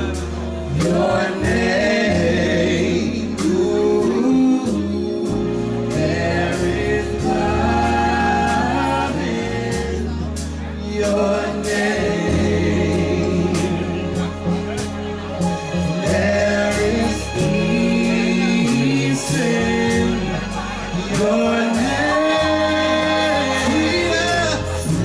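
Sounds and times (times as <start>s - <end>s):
low bass notes: 0.0s - 25.0s
male voices singing in harmony: 0.0s - 25.0s.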